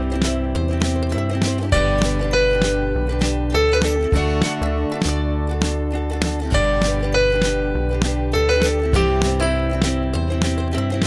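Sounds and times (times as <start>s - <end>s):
upbeat guitar music with beat: 0.0s - 11.0s.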